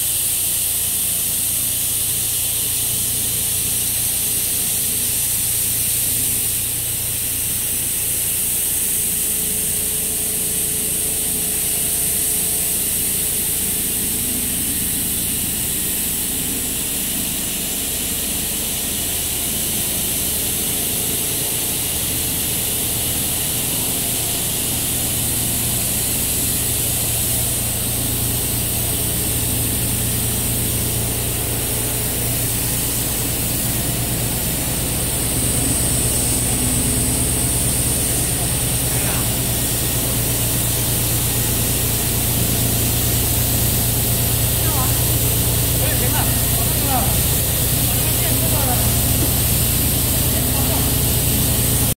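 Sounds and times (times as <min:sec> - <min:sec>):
low machine hum: 0:00.0 - 0:51.9
machinery hiss: 0:00.0 - 0:51.9.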